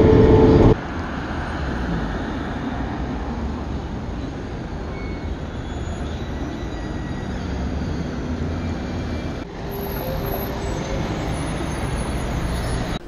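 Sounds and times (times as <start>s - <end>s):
road traffic rumble: 0.0s - 13.0s
trolleybus driving past: 0.0s - 13.0s.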